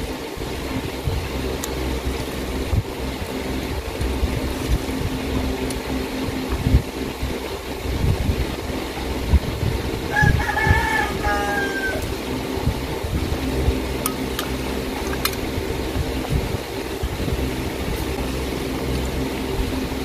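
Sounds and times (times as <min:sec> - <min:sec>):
low mechanical hum: 0:00.0 - 0:20.0
low rumbles: 0:00.0 - 0:20.0.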